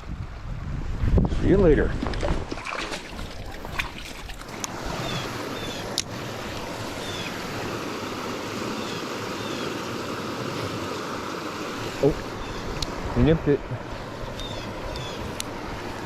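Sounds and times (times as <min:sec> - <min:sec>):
creek water flowing: 0:02.0 - 0:16.0.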